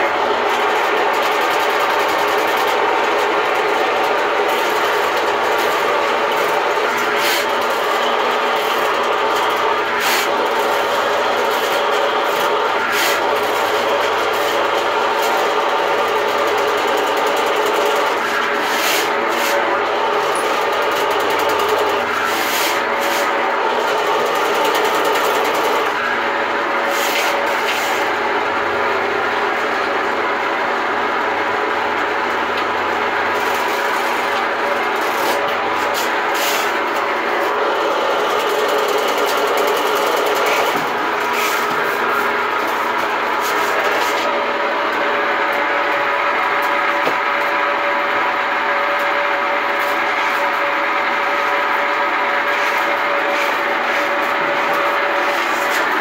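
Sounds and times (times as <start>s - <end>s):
sewer machine motor running: 0.0s - 56.0s.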